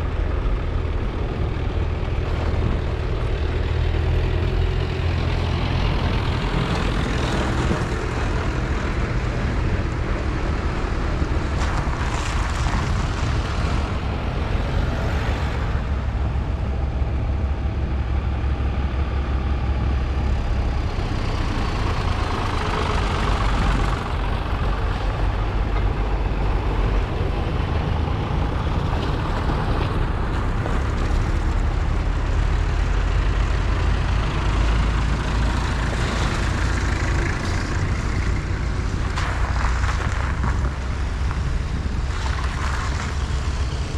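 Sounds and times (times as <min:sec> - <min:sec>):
tractor diesel engines droning: 0:00.0 - 0:43.9.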